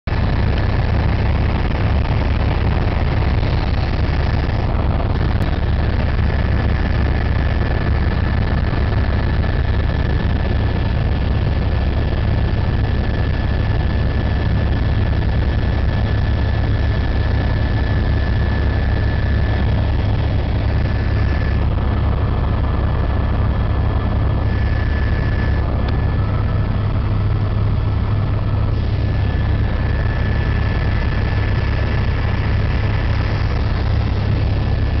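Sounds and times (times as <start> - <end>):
helicopter rotor and engine drone: 0.0 - 35.0
thin steady whine: 0.1 - 35.0.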